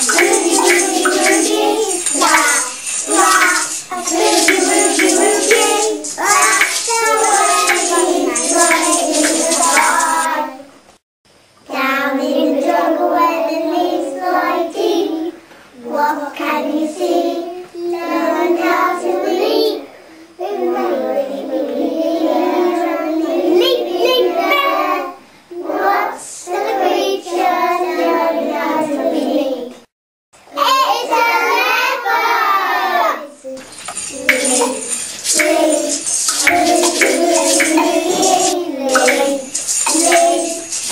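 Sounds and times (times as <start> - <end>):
young children singing: 0.0 - 10.8, 11.7 - 29.8, 30.5 - 40.9.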